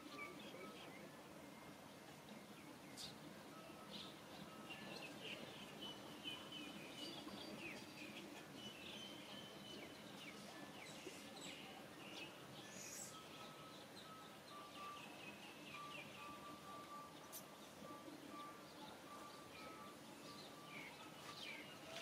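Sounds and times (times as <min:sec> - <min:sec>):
small birds chirping and whistling: 0:00.0 - 0:01.1, 0:02.2 - 0:22.0.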